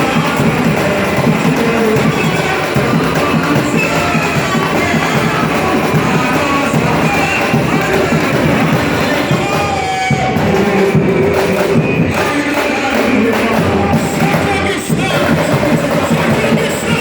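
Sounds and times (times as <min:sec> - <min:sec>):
samba drums playing: 0:00.0 - 0:17.0
voices singing along: 0:00.0 - 0:17.0.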